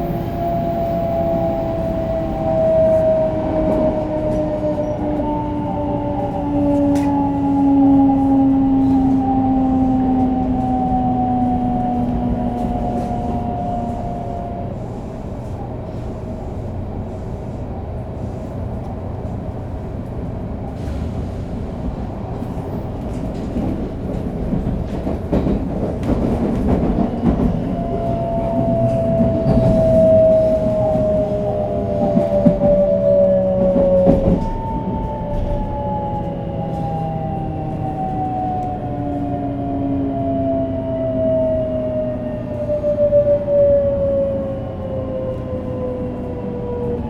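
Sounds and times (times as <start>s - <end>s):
train rail rumble: 0.0s - 47.0s.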